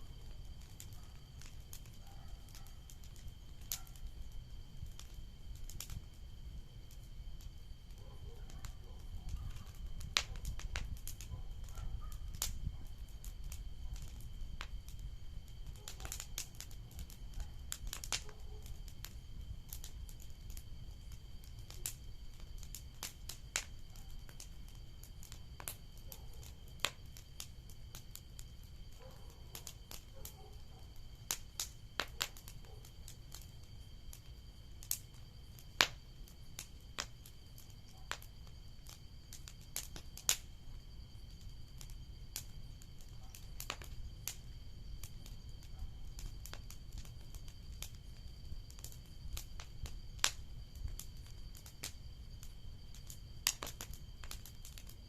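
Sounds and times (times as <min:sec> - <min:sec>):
bonfire crackling: 0:00.0 - 0:55.0.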